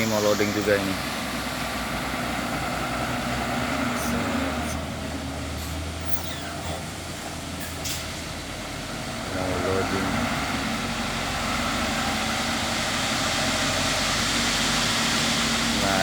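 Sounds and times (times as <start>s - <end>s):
diesel truck engine humming: 0.0s - 16.0s.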